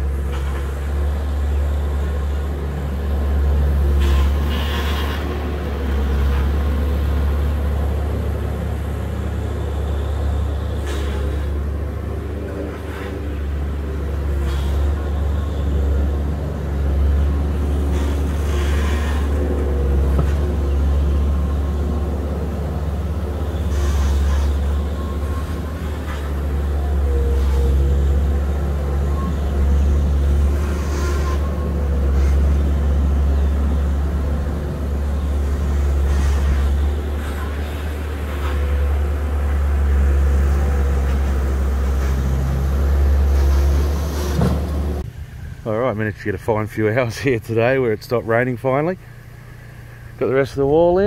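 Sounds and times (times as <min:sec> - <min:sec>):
diesel engine humming: 0:00.0 - 0:51.0.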